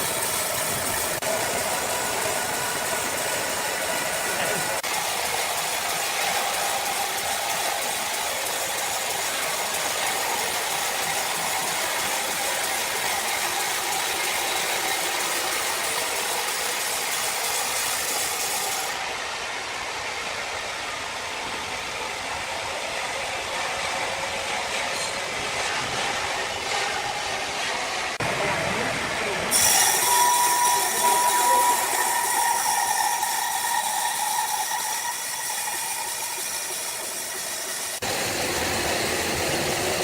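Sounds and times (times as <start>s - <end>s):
sawmill machinery droning: 0.0s - 40.0s.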